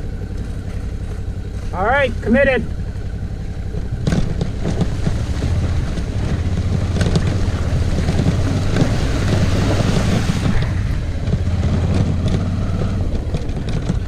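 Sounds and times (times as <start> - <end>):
motorcycle engine running: 0.0 - 14.0
water splashing around wheels: 0.0 - 14.0.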